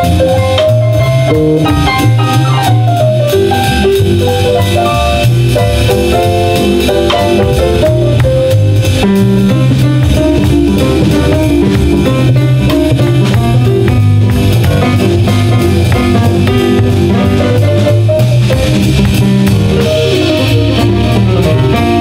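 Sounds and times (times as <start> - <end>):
bass: 0.0 - 22.0
drum kit beat: 0.0 - 22.0
electric guitar: 0.0 - 22.0
stage piano runs: 0.0 - 22.0.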